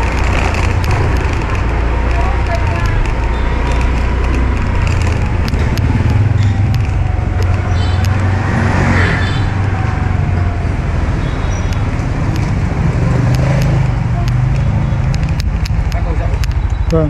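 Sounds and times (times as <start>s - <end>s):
scooter riding rumble: 0.0s - 17.0s.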